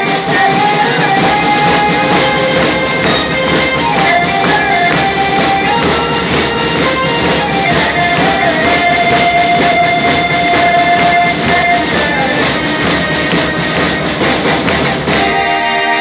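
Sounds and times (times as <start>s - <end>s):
music with steady beat: 0.0s - 16.0s.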